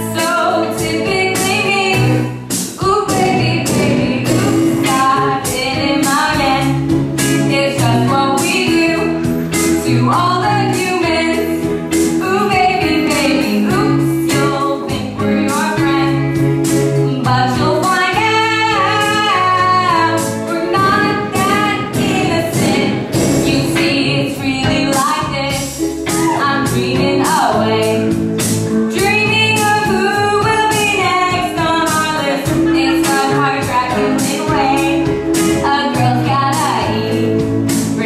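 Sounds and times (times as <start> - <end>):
musical accompaniment with steady beat: 0.0 - 38.0.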